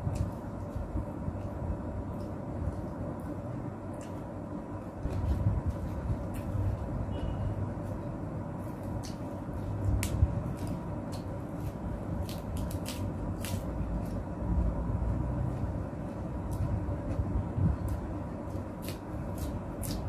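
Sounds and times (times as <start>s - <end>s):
chewing crisp lettuce: 0.0s - 6.9s, 8.6s - 20.0s
low background hum: 0.0s - 20.0s.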